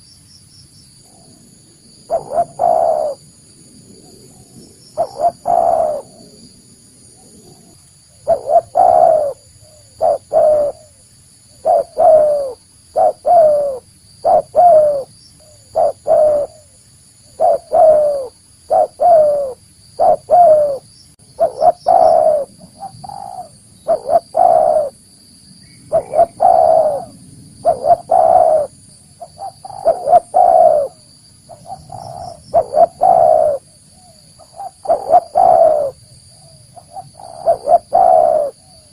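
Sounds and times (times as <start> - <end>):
doves cooing: 2.1 - 3.2, 4.0 - 6.4, 7.2 - 11.0, 11.6 - 25.0, 25.9 - 38.9.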